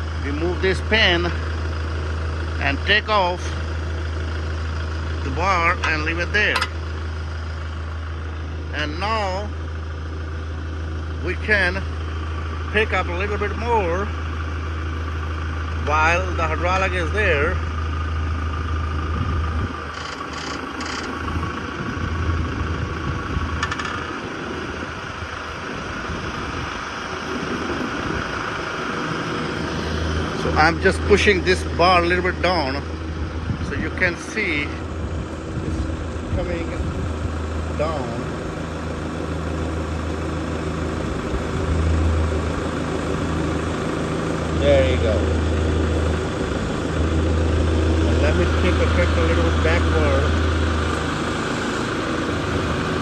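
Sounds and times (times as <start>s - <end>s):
hydraulic high whine: 0.0s - 53.0s
tractor diesel engine running: 0.0s - 53.0s.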